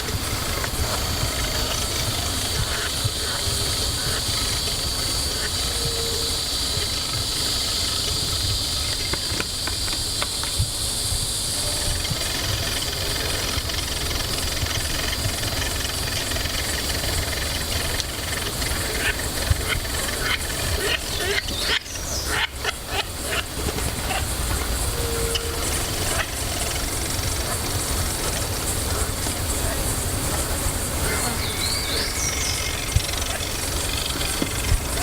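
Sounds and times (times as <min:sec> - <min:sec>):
high-pitched insect buzz: 0:00.0 - 0:35.0.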